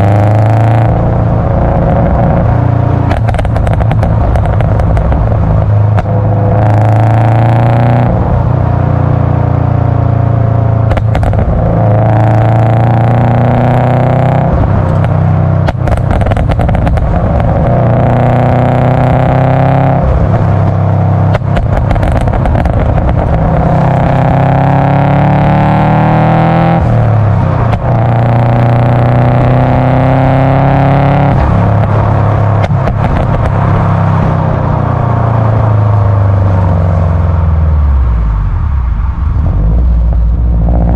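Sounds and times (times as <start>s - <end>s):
car engine revving: 0.0s - 40.9s
exhaust crackling and popping: 0.0s - 40.9s.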